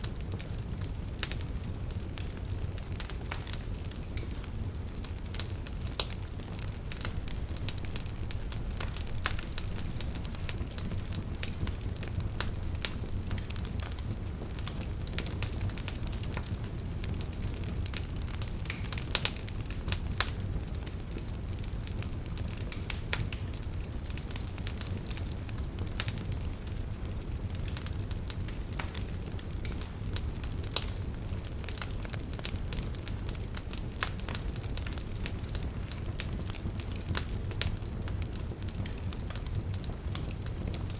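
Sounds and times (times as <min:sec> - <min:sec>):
burning logs crackling and popping: 0:00.0 - 0:40.9
low rumble of flames: 0:00.0 - 0:40.9.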